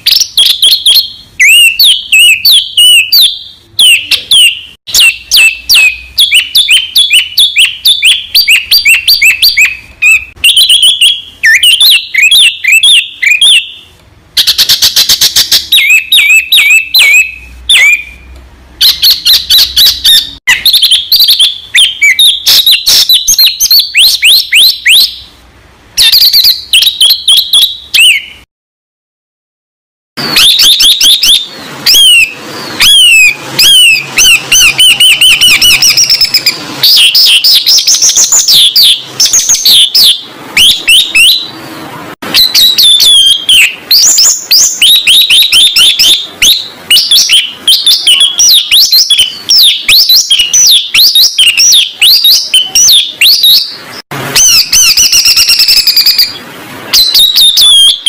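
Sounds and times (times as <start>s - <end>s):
recorded songbird song: 0.0s - 28.5s, 30.2s - 58.0s.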